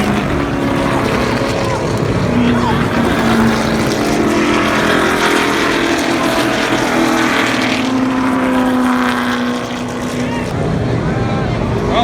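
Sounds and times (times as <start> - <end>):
stock car engines droning: 0.0 - 12.0.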